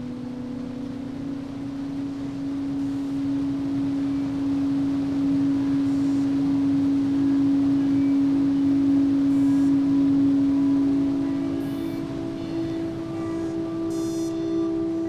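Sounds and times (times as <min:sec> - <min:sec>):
soft noisy wash: 0:00.0 - 0:15.0
steady low drone tone: 0:00.0 - 0:15.0.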